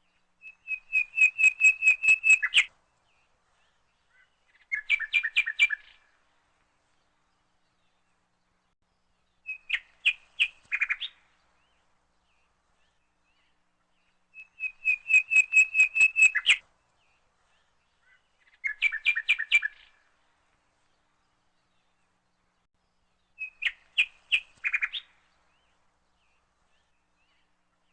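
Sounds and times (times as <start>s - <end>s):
bird chirping: 0.0s - 6.2s, 7.0s - 20.1s, 20.8s - 27.9s.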